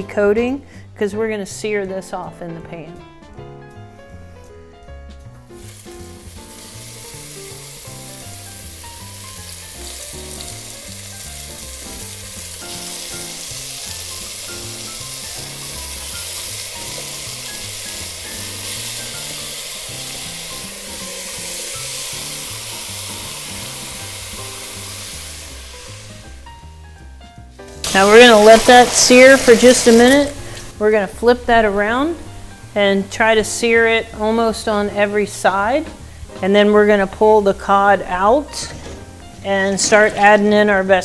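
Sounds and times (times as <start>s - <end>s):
fish sizzling in hot oil: 5.4s - 41.0s.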